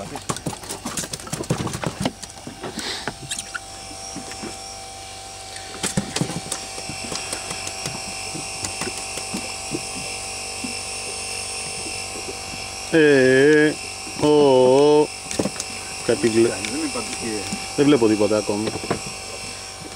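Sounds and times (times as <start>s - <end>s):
fishing reel motor whining: 2.3s - 19.9s.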